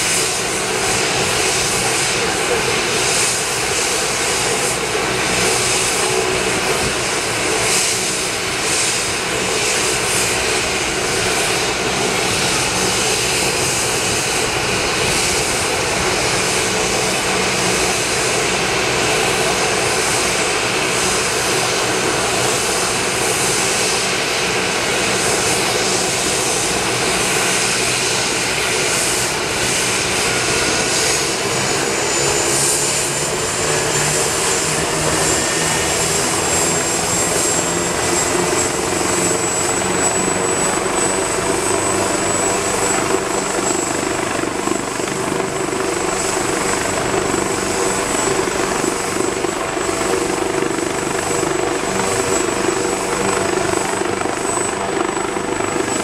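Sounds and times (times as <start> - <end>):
helicopter turbine and rotors: 0.0 - 56.0.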